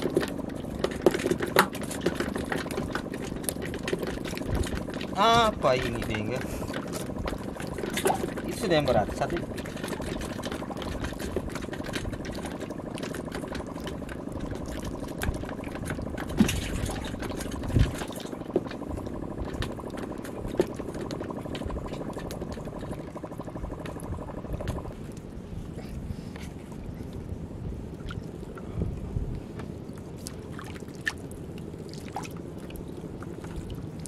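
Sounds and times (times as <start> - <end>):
water lapping against boat: 0.0 - 34.0.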